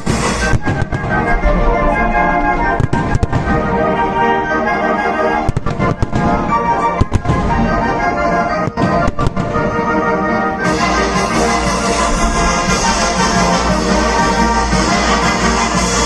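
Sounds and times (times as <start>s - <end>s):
loud music with held chords: 0.0s - 4.6s, 5.6s - 16.0s
fireworks banging: 0.0s - 16.0s.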